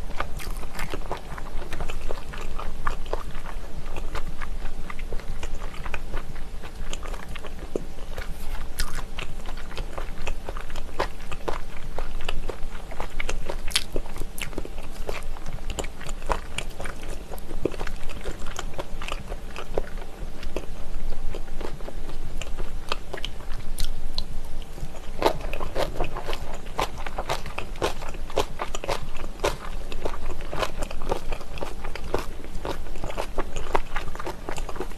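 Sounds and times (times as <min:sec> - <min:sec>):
person chewing with crunches: 0:00.0 - 0:34.9.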